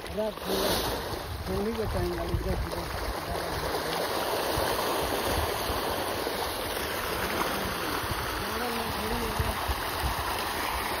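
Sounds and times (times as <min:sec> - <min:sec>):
fish thrashing and splashing: 0:00.0 - 0:11.0.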